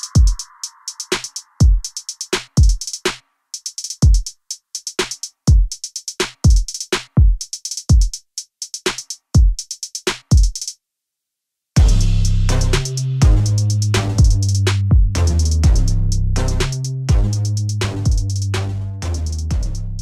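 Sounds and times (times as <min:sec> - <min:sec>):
electronic music with drum machine: 0:00.0 - 0:10.7, 0:11.8 - 0:20.0.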